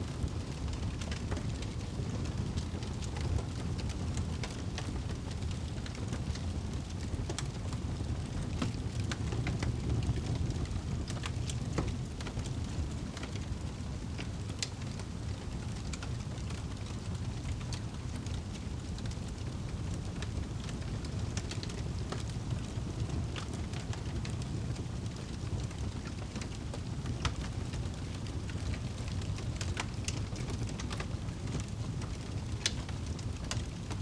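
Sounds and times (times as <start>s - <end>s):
burning logs crackling and popping: 0.0s - 34.0s
low rumble of flames: 0.0s - 34.0s.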